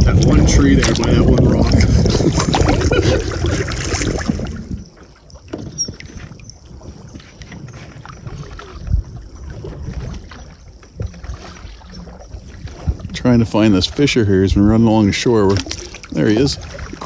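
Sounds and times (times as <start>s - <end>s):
water sounds: 0.0s - 17.0s
wind on microphone: 0.0s - 17.0s
paddle strokes: 0.2s - 17.0s.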